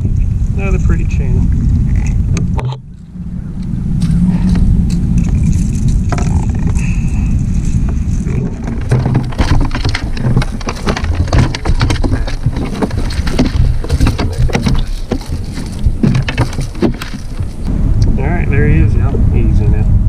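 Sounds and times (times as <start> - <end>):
knocks and rattles in kayak: 0.0 - 3.1, 4.0 - 17.7
wind rumble on microphone: 0.0 - 20.0.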